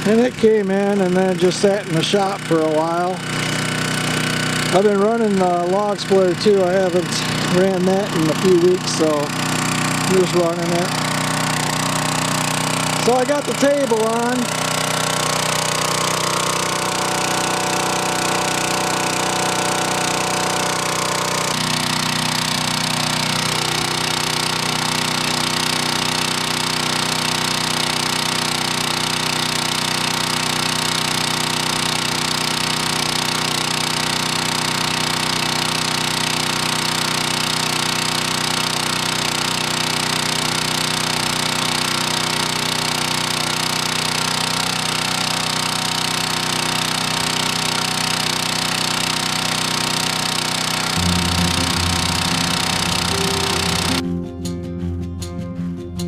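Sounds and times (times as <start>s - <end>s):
small gas engine running: 0.0s - 54.1s.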